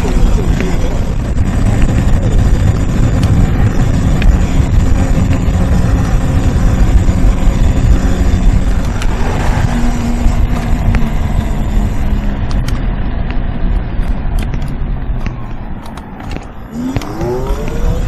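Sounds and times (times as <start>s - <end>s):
loose microphone rumbling: 0.0s - 18.0s.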